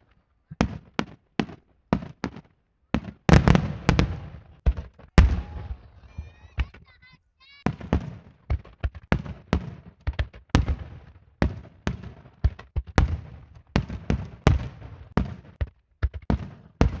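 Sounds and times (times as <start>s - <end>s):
fireworks bursting with echo: 0.0s - 17.0s.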